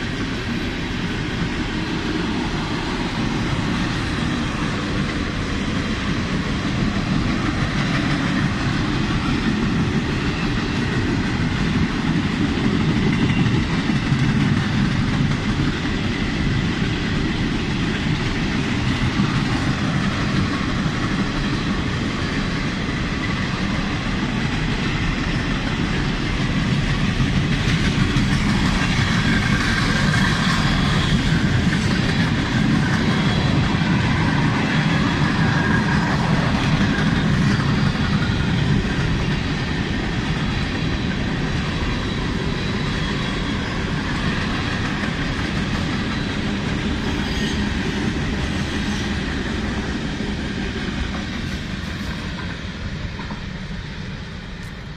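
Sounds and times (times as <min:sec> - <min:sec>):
freight train wheels on track: 0:00.0 - 0:54.9.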